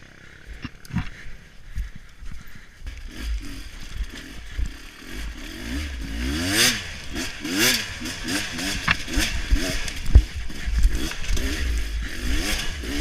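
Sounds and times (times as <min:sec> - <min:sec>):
low wind rumble: 0:00.0 - 0:13.0
motorcycle engine revving: 0:00.0 - 0:13.0.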